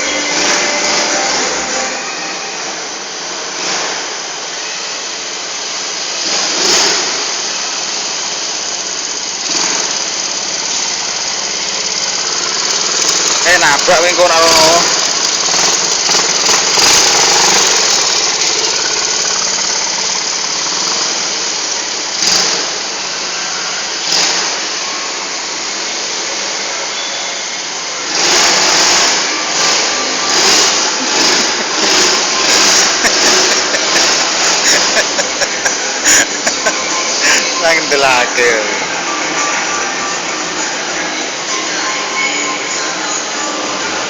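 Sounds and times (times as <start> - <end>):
atv engine revving: 0.0 - 3.9, 6.1 - 23.3, 23.9 - 24.8, 28.0 - 44.0.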